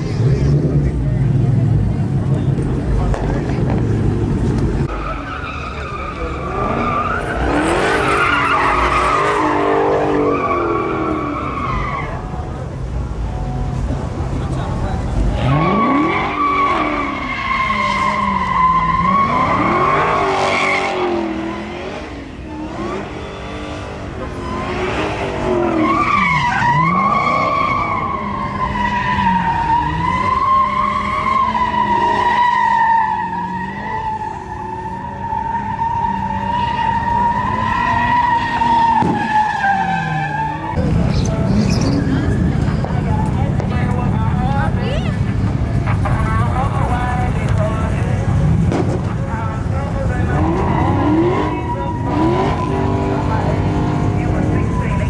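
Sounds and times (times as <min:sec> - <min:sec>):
tires squealing: 0:00.0 - 0:55.0
truck engine revving: 0:00.0 - 0:55.0.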